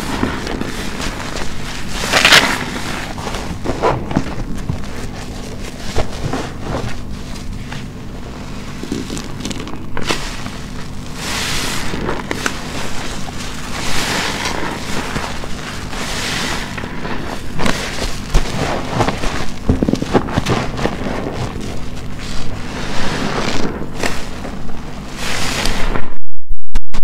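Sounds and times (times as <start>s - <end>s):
wet sponge squelching: 0.0s - 26.0s
low steady rumble: 0.0s - 26.2s.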